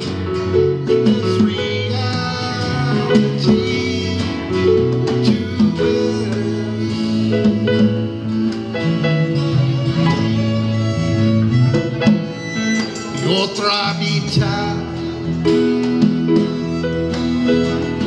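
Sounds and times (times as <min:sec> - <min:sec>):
live band slow song with guitar: 0:00.0 - 0:18.0
moving bass line: 0:00.0 - 0:18.0.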